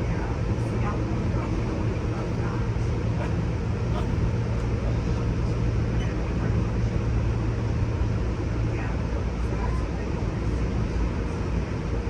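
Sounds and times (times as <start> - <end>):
train car rumble and hum: 0.0 - 12.0.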